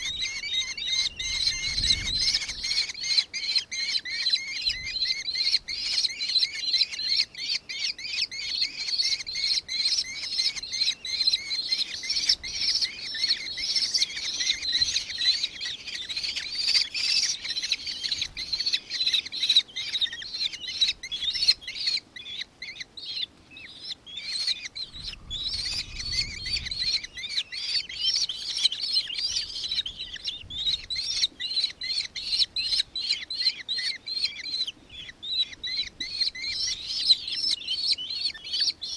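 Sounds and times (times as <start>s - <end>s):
kestrel shrill chattering call: 0.0s - 38.9s.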